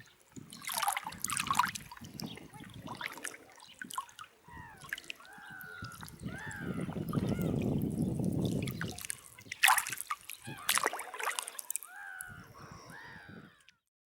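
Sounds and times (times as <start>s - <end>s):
water trickling and splashing: 0.0s - 13.6s.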